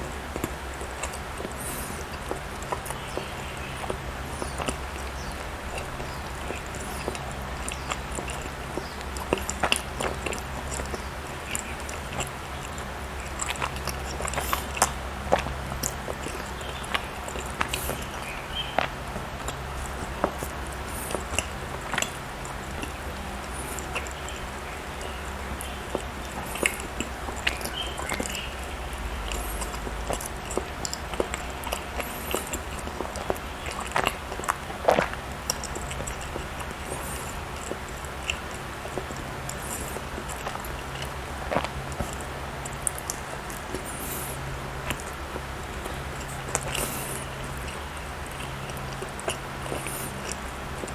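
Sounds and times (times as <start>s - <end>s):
person chewing: 0.0s - 50.9s.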